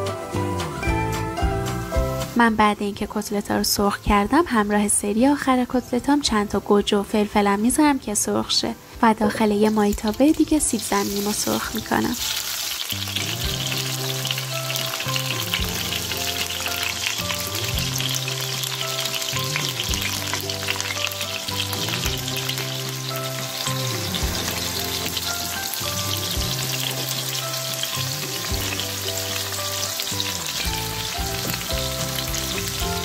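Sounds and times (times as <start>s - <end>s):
hot oil sizzling and crackling: 0.0s - 5.4s, 9.0s - 33.0s
slow background music: 0.0s - 33.0s.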